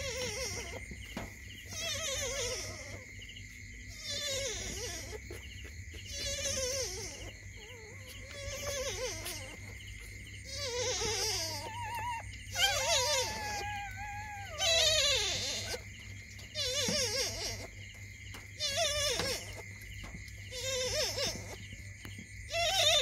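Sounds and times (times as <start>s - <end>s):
puppy whining: 0.0s - 23.0s.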